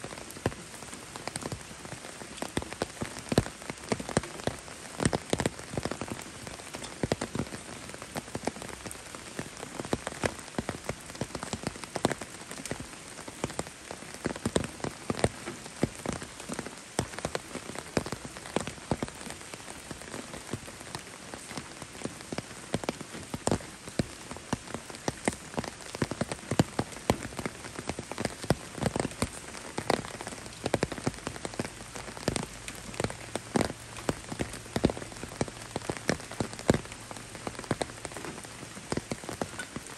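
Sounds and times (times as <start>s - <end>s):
raindrops tapping close by: 0.0s - 39.9s
steady rain falling: 0.0s - 39.9s.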